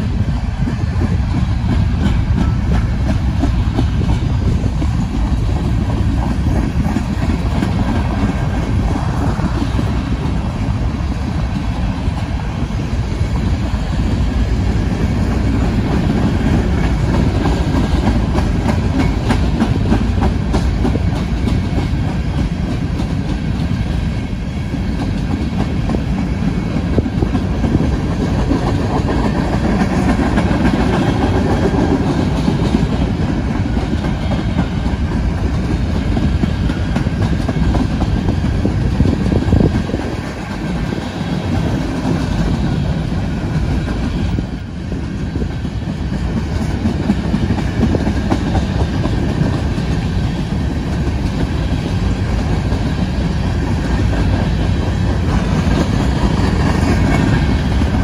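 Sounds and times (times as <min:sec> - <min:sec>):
steel wheels rumbling on rails: 0:00.0 - 0:58.0.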